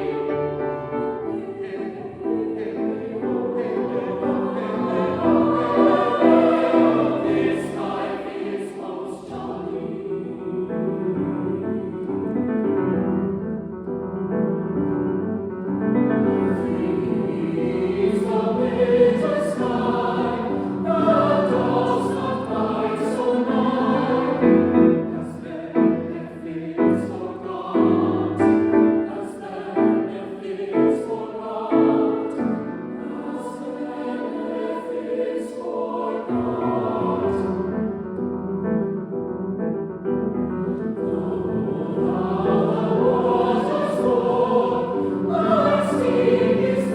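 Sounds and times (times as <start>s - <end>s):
mixed choir singing: 0.0s - 13.0s, 16.2s - 38.1s, 40.5s - 46.9s
piano accompaniment: 0.0s - 46.9s.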